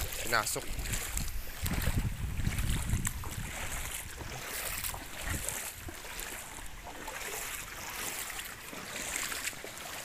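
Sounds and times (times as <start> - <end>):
floodwater sloshing and splashing: 0.0 - 10.0.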